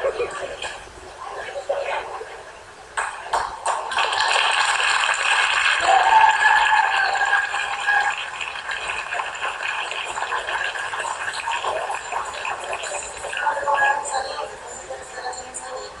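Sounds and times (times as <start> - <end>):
crowd chatter in a hall: 0.0 - 16.0.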